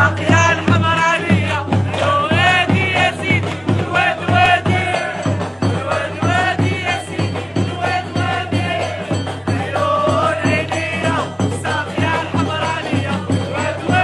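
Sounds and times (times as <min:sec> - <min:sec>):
steady drum beat: 0:00.0 - 0:14.0
voices singing chant-like song: 0:00.0 - 0:14.0.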